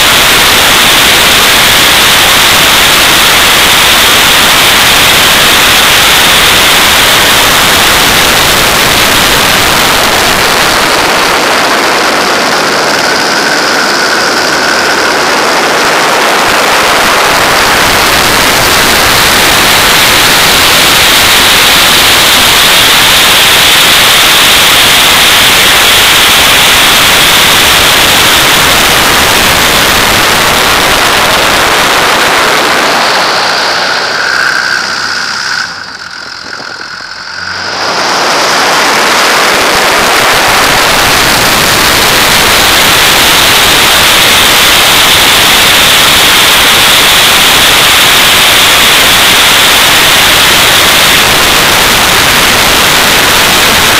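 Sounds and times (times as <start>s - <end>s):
aircraft engine: 0.0s - 53.9s
wind blasting over microphone: 0.0s - 53.9s.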